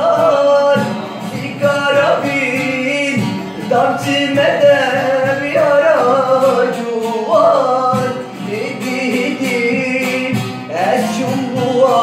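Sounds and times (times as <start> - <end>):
instrumental accompaniment: 0.0 - 12.0
man singing: 0.0 - 12.0.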